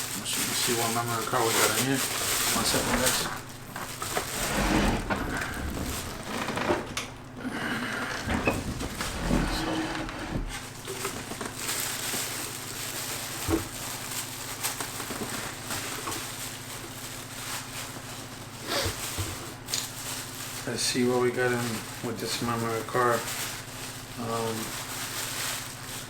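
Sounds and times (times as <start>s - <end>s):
plastic packaging crinkling: 0.0s - 7.4s, 8.2s - 26.0s.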